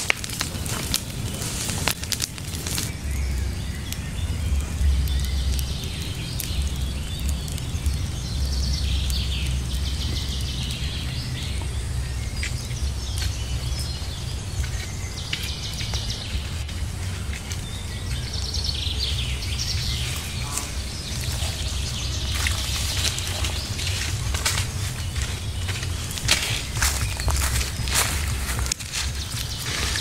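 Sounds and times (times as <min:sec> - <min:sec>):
birds chirping: 0:00.0 - 0:30.0
steady low rumble: 0:00.0 - 0:30.0.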